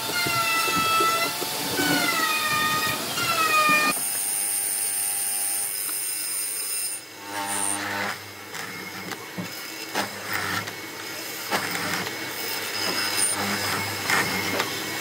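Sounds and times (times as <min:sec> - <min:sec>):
power tool high whine: 0:00.0 - 0:15.0.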